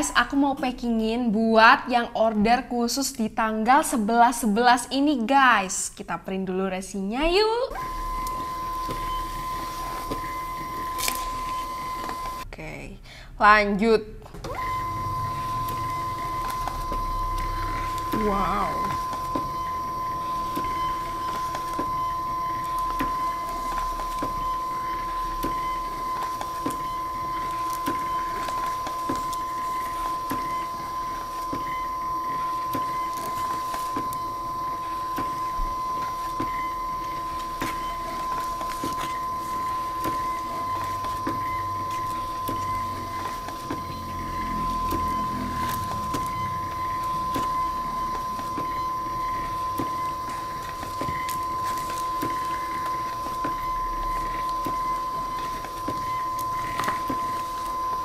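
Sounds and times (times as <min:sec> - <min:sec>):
printer whining with ticks: 0:07.7 - 0:12.5, 0:14.2 - 0:58.0.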